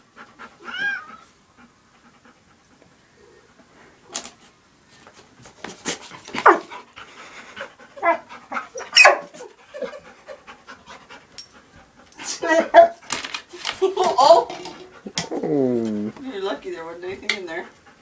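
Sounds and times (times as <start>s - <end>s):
puppy panting: 0.0s - 4.0s, 5.7s - 13.1s, 14.4s - 18.0s.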